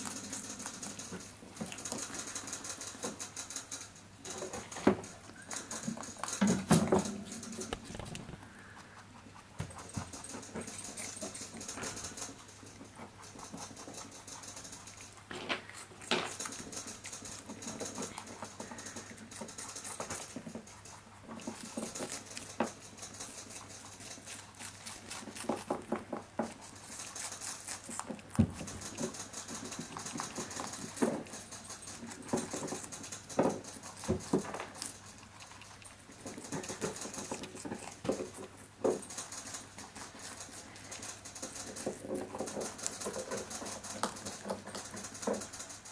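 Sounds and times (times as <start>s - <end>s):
rabbits crunching watermelon rind: 0.0s - 45.9s.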